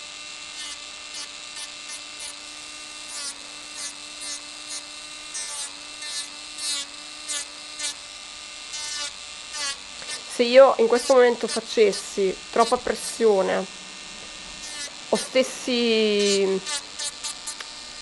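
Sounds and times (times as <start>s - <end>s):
drill bit grinding gel: 0.0s - 18.0s
electric nail drill whining: 0.0s - 18.0s.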